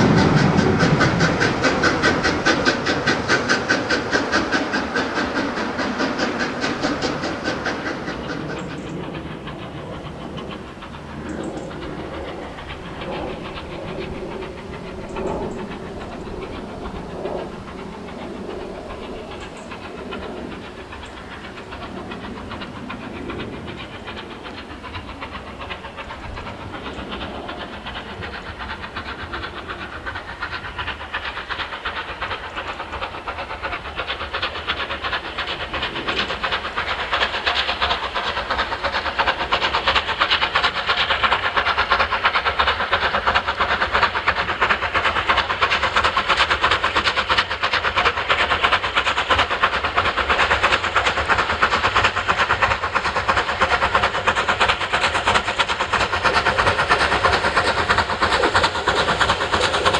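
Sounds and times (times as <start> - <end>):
steam locomotive exhaust beating: 0.0 - 59.9.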